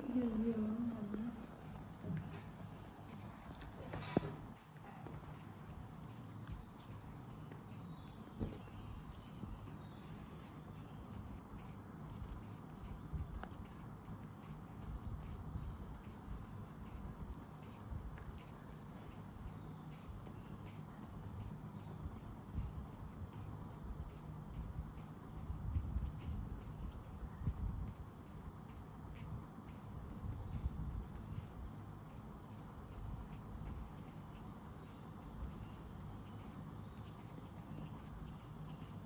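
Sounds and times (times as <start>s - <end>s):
high-pitched insect trilling: 0.0s - 39.0s.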